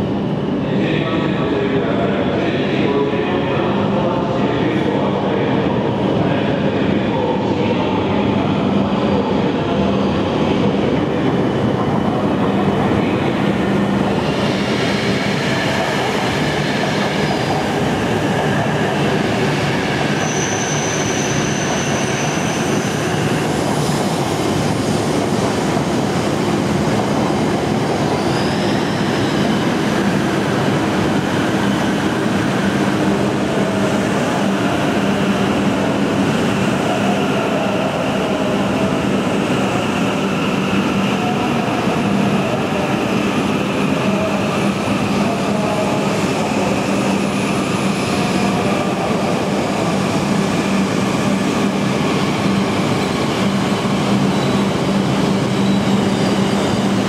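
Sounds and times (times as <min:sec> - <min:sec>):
train rolling rumble and hum: 0:00.0 - 0:57.0.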